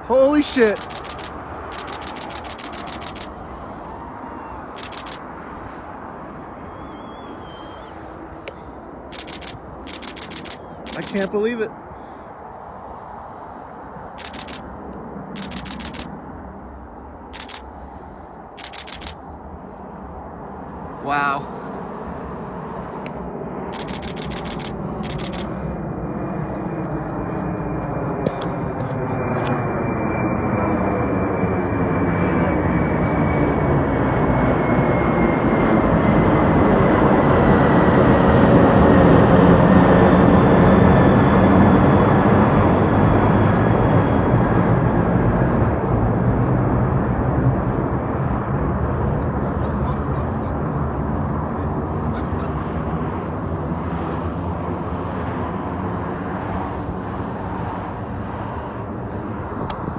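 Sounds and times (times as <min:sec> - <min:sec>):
high jet engine whine: 0:00.0 - 0:59.9
jet engines roaring: 0:00.0 - 0:59.9.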